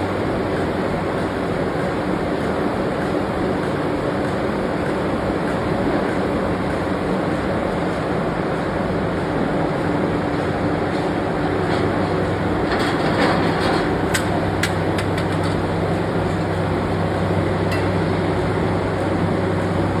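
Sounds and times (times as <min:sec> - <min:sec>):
workshop machinery humming: 0:00.0 - 0:20.0.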